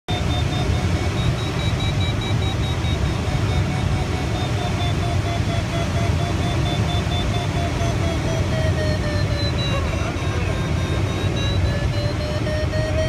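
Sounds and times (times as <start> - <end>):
variometer beeping rapidly: 0.1 - 13.0.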